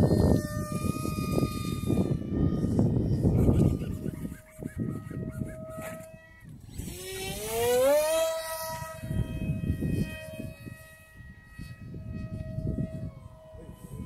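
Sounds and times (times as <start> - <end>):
low wind rumble: 0.0 - 14.0
model jet motor whine: 0.0 - 14.0.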